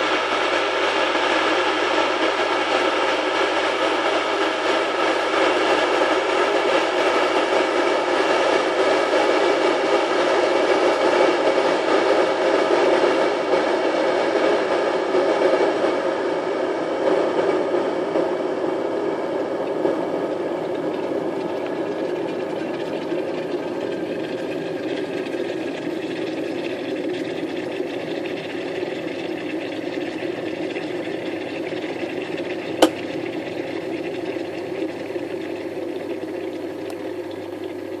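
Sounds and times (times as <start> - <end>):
kettle water boiling: 0.0 - 38.0.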